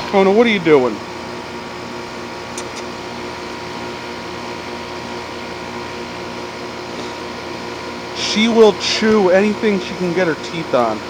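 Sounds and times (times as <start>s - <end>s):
compressor hum: 0.0s - 11.0s.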